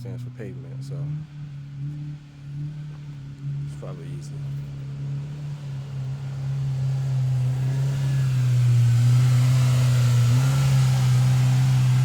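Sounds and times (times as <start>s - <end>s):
engine droning under load: 0.0s - 12.0s.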